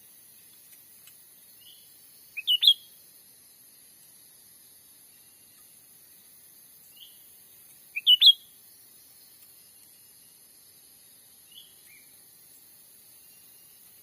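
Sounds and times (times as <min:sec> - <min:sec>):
faint high insect hum: 0:00.0 - 0:14.0
bird chirping: 0:00.4 - 0:03.1, 0:05.0 - 0:14.0.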